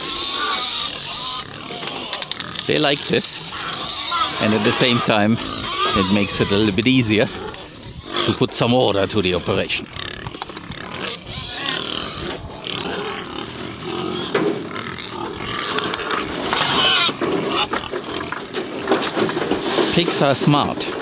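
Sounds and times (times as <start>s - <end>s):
pigs grunting and squealing: 0.0s - 21.0s.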